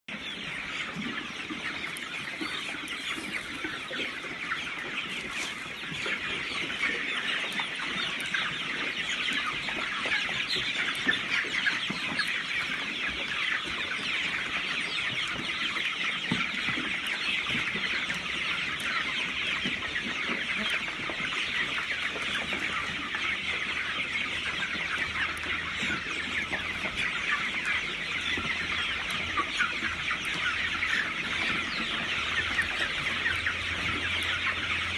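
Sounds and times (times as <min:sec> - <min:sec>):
chickens calling: 0:00.1 - 0:34.9.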